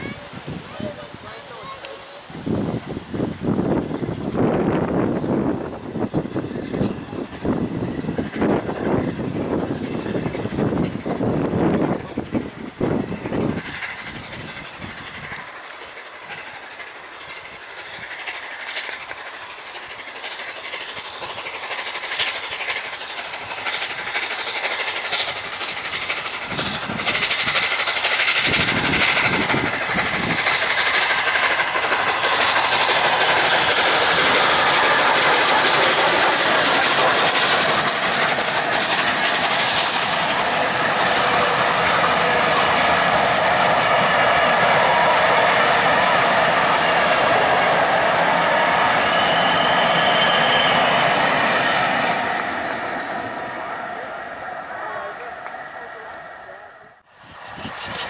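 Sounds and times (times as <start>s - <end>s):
steam locomotive approaching: 0.0s - 58.0s.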